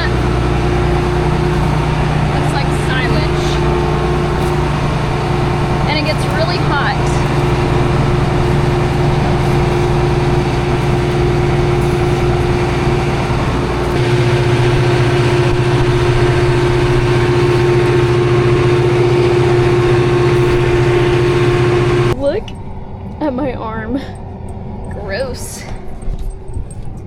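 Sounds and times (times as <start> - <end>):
combine harvester engine droning: 0.0 - 27.0.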